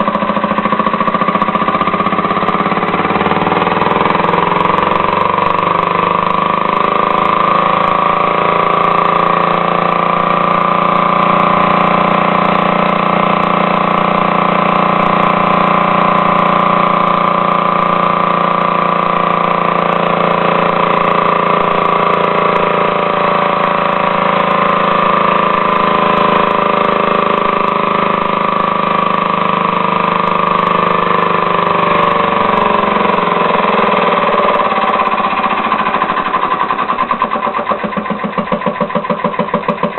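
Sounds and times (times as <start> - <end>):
compressed-air motor running: 0.0 - 39.9.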